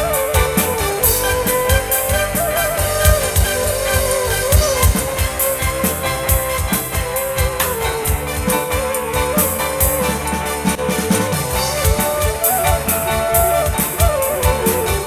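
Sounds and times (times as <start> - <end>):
steady drum beat: 0.0 - 15.0
wavering bending melody: 0.0 - 15.0.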